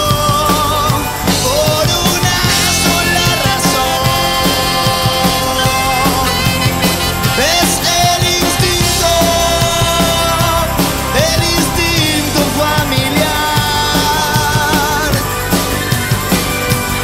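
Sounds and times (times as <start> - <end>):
man singing: 0.0 - 16.4
drums: 0.0 - 17.0
electric bass: 0.0 - 17.0
saxophone: 2.0 - 17.0.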